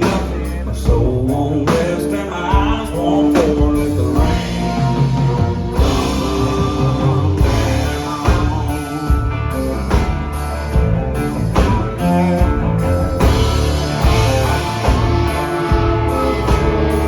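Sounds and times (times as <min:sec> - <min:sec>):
rock band playing: 0:00.0 - 0:17.0
drum hits: 0:02.6 - 0:17.0.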